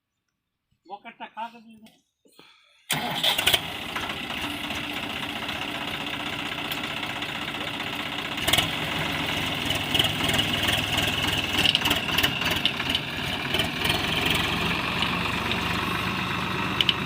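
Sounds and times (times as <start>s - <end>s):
excavator diesel engine running: 2.9s - 17.0s.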